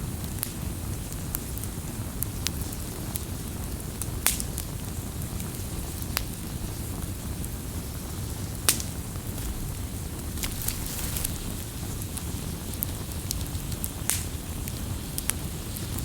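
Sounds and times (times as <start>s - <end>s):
campfire rumble and hiss: 0.0s - 16.0s
fire crackling and popping: 0.3s - 7.8s, 8.5s - 16.0s.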